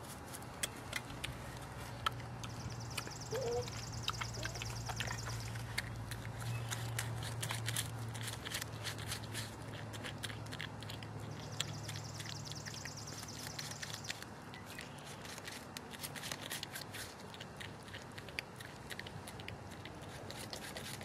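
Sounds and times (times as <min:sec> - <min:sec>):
porcupine crunching food: 0:00.0 - 0:21.0
steady low hum: 0:00.0 - 0:21.0.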